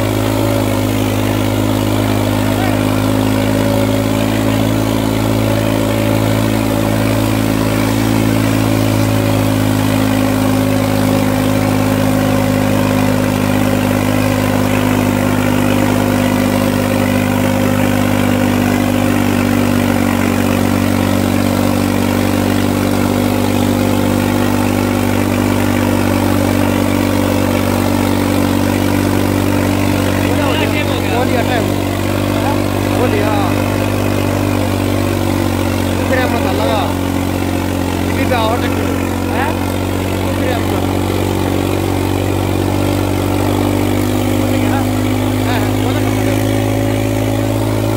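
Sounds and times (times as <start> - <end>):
diesel tractor engine running hard: 0.0 - 47.9.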